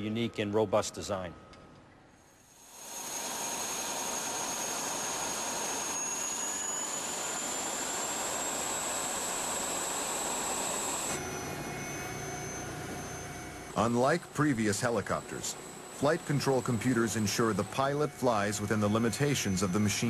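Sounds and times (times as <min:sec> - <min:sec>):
helicopter turbine and rotors: 0:02.3 - 0:20.0.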